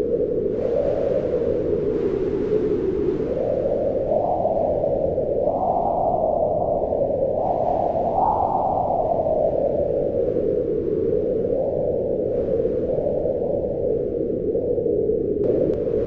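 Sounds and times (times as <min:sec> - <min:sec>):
strong wind gusting: 0:00.0 - 0:16.0.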